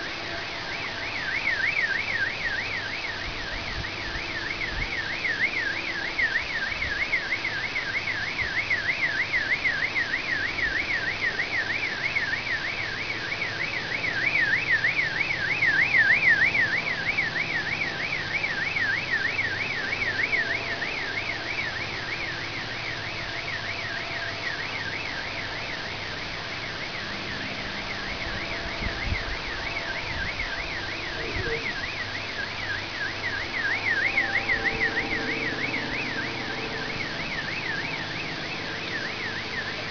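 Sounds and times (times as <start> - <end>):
car alarm siren wailing: 0.0 - 39.9
faint low steady drone: 0.0 - 39.9.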